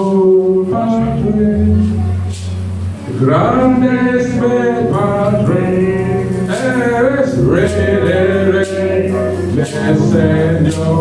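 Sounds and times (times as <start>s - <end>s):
man singing long held notes: 0.0s - 2.4s, 3.1s - 11.0s
instrumental backing: 0.0s - 11.0s.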